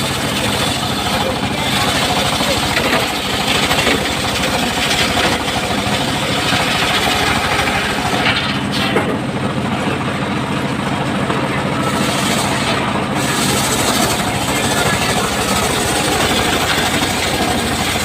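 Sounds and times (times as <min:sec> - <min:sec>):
sawmill engine running: 0:00.0 - 0:18.0.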